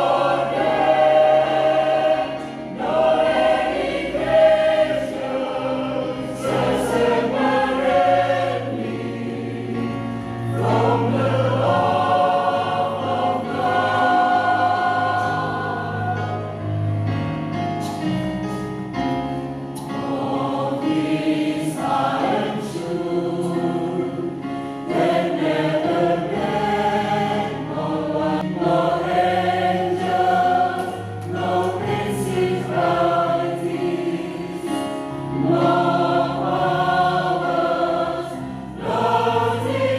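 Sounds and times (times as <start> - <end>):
choir singing gospel in harmony: 0.0 - 17.4, 19.8 - 39.9.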